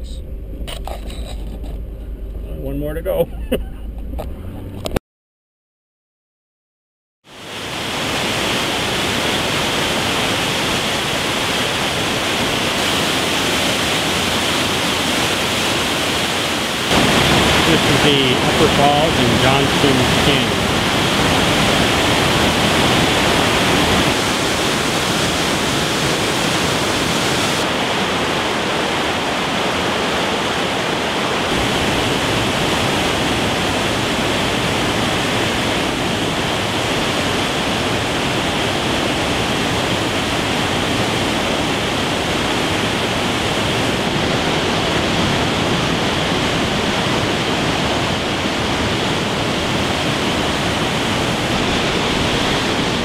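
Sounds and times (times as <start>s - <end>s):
waterfall rushing: 7.3s - 53.0s.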